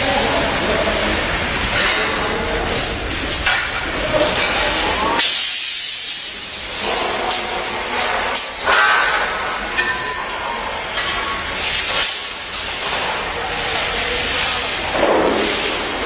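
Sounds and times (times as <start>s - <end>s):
construction machinery noise: 0.0s - 5.2s, 6.3s - 16.0s.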